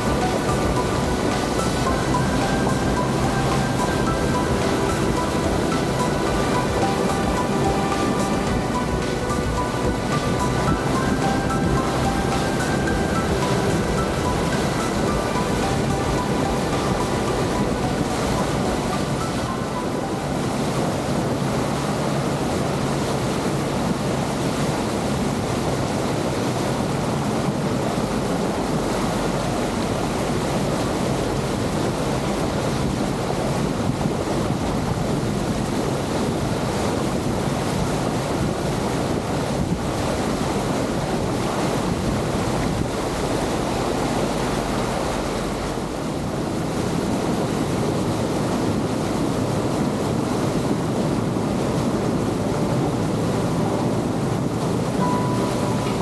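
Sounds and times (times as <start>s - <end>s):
water churning along boat hull: 0.0s - 56.0s
wind on microphone: 0.0s - 56.0s.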